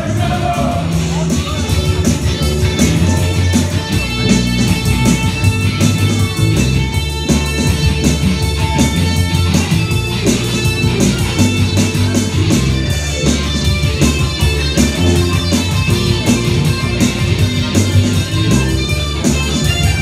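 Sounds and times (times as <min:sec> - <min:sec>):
bass guitar: 0:00.0 - 0:20.0
drum kit beat: 0:00.0 - 0:20.0
electric guitar: 0:00.0 - 0:20.0.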